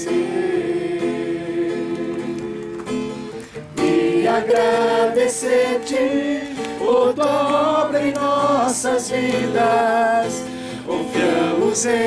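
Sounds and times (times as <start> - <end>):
congregation singing: 0.0 - 12.0
guitar accompaniment: 0.0 - 12.0.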